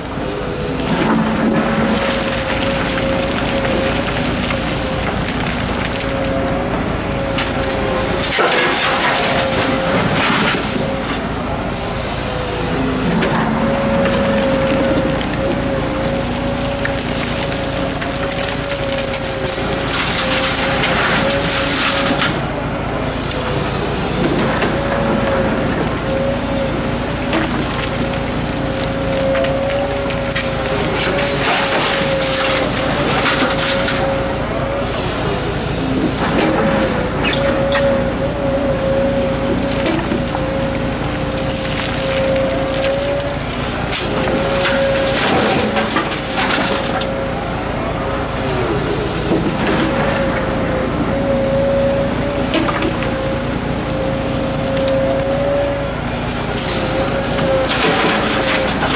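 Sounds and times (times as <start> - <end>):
excavator diesel engine whining: 0.0 - 58.9.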